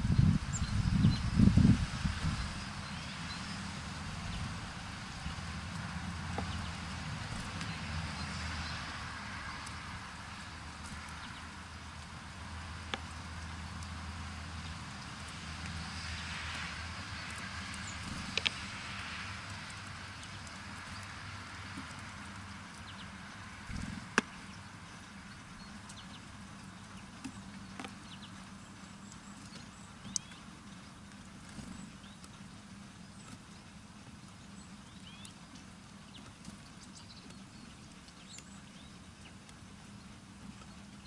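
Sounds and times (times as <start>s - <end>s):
birds pecking and landing: 5.2s - 11.6s, 12.8s - 41.0s.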